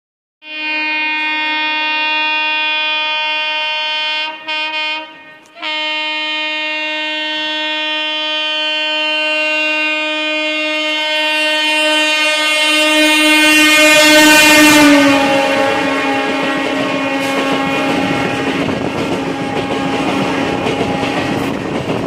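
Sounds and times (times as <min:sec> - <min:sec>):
locomotive horn: 0:00.4 - 0:21.6
rail running noise: 0:00.7 - 0:22.0.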